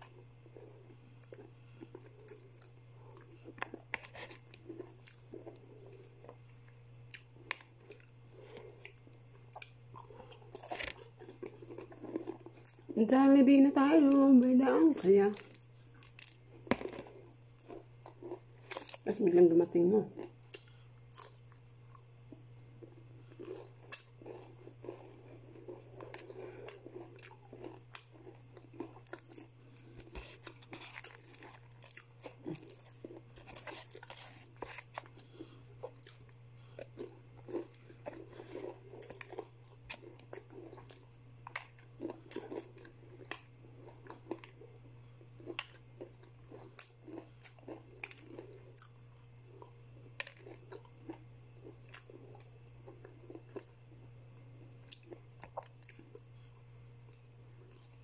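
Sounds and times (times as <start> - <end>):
crunchy chewing: 0.0 - 13.0, 14.1 - 19.1, 20.1 - 58.0.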